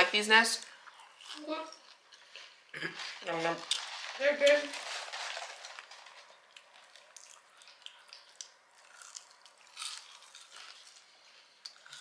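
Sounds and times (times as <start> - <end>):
chewing crisp fries: 0.6 - 4.2, 5.2 - 12.0.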